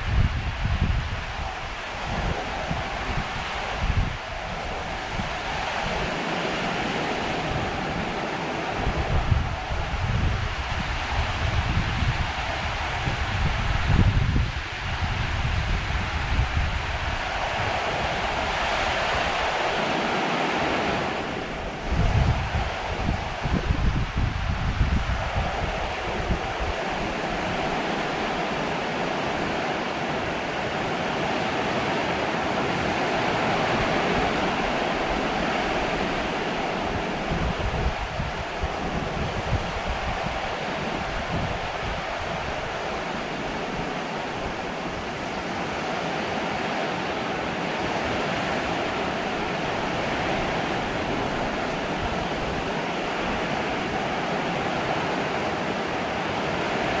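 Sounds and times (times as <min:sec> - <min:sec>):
heavy rain on metal awning: 0:00.0 - 0:57.0.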